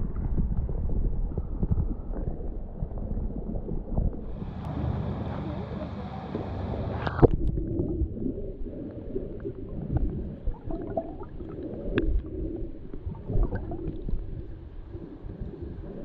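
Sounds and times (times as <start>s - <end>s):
muffled underwater gurgling rumble: 0.0s - 16.0s.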